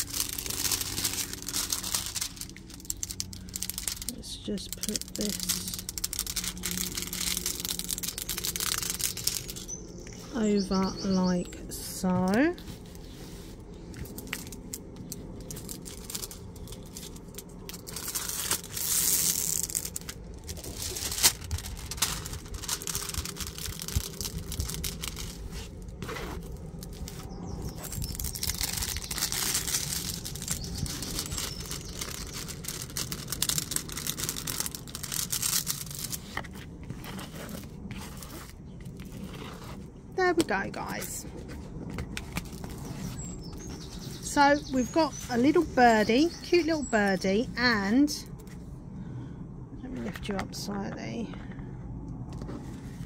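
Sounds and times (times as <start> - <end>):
plastic film crinkling: 0.0 - 10.4, 11.8 - 47.2.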